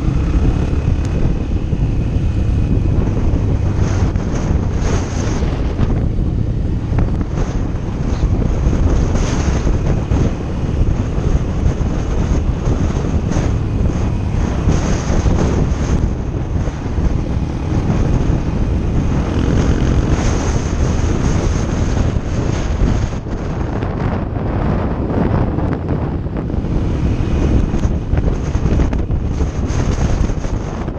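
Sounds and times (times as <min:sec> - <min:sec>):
motorcycle engine running: 0:00.0 - 0:30.9
wind buffeting microphone: 0:00.0 - 0:30.9.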